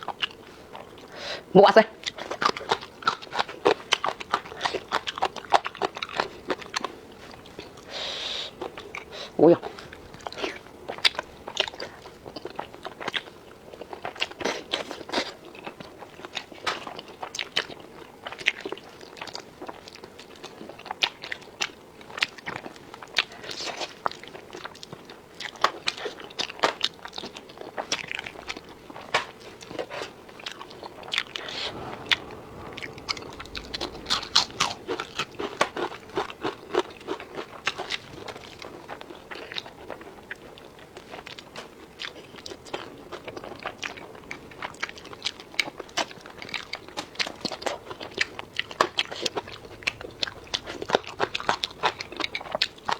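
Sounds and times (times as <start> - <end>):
crunchy chewing of crisp food: 8.4 - 52.9.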